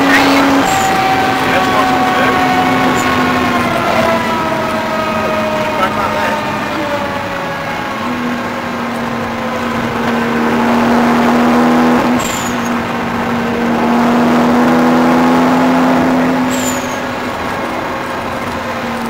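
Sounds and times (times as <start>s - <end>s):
car engine pulling hard: 0.0s - 19.0s.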